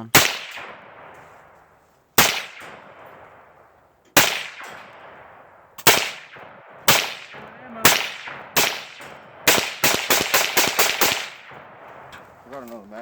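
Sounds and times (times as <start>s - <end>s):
gunshots with echo: 0.0s - 1.6s, 2.2s - 12.2s.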